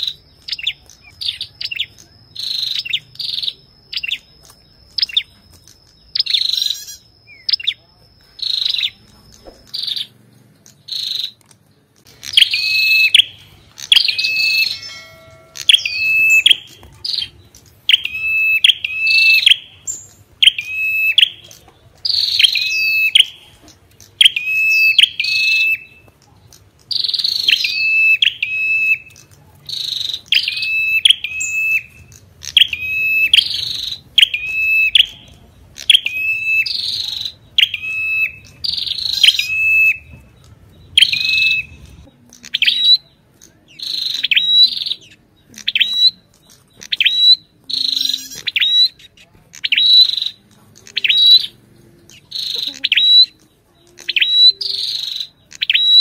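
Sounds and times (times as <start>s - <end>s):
bird singing sharp phrases: 0.0s - 56.0s.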